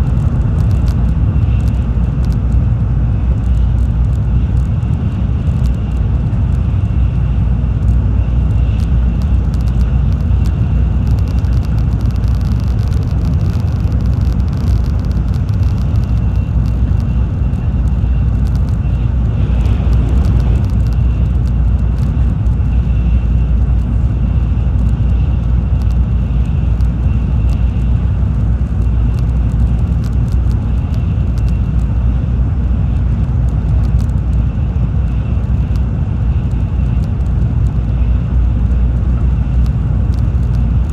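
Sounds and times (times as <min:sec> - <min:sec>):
train rumble inside cabin: 0:00.0 - 0:40.9.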